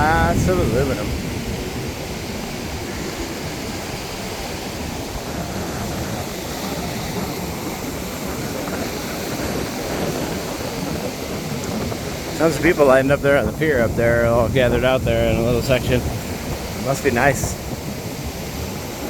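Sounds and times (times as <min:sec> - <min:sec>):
ocean surf rushing: 0:00.0 - 0:19.0
wind buffeting microphone: 0:00.0 - 0:19.0.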